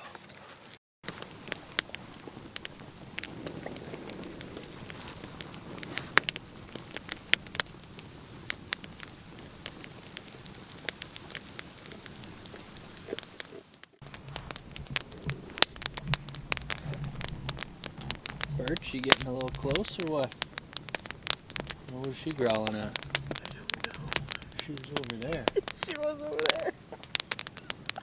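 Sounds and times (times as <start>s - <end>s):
campfire crackling and snapping: 0.1s - 28.0s.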